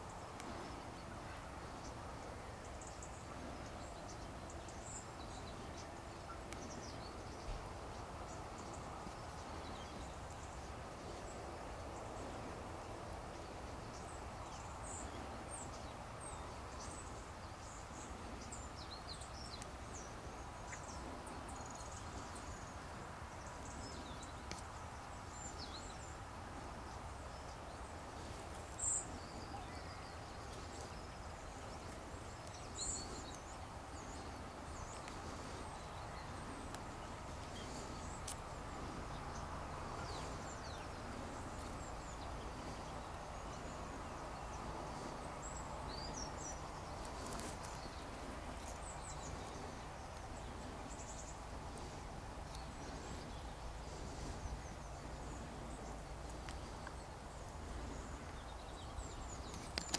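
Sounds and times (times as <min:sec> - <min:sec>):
small birds calling: 0:00.0 - 0:59.9.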